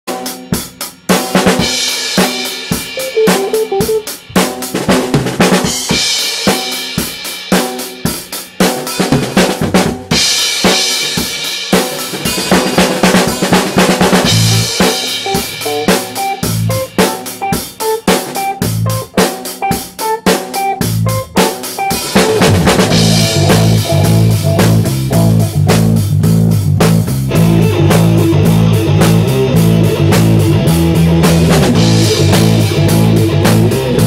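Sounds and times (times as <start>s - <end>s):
drum kit beat: 0.1s - 34.0s
rock band playing: 0.1s - 34.0s.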